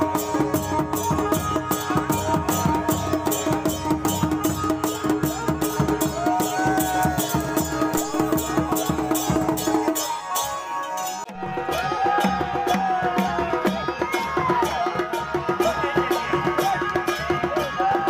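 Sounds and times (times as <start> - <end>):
fast folk drumming on barrel drums: 0.0 - 10.2, 11.4 - 18.0.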